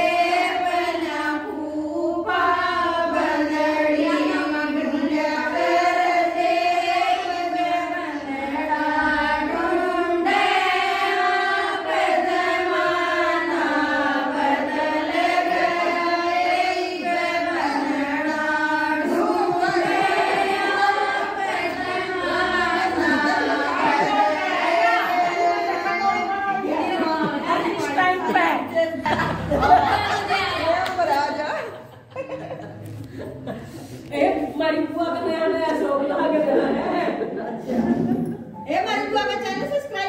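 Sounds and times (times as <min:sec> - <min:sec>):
women singing devotional song: 0:00.0 - 0:32.6, 0:33.8 - 0:40.0.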